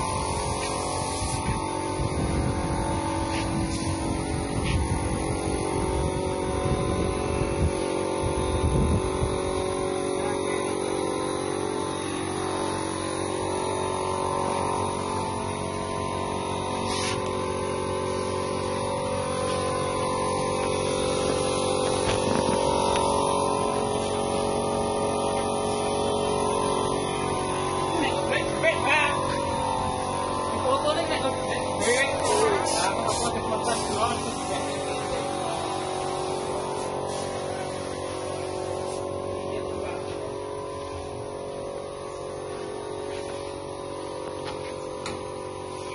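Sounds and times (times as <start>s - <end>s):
threshing machine humming: 0.0s - 45.9s.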